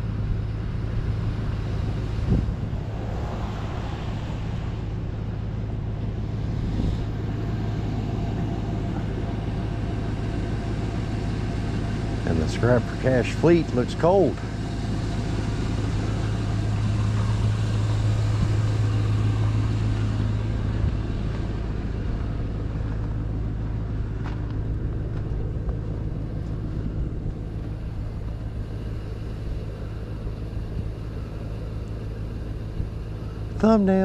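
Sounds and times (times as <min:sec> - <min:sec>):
vehicle engine humming: 0:00.0 - 0:34.0.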